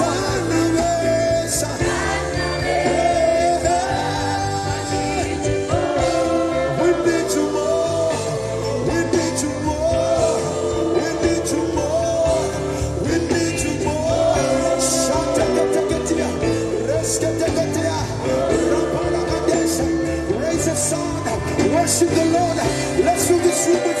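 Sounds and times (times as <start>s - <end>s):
worship music with singing: 0.0s - 24.0s.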